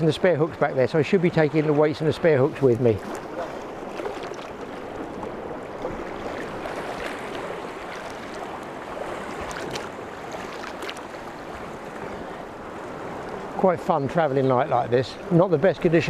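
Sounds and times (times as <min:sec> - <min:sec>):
small waves lapping against rocks: 0:00.0 - 0:16.0.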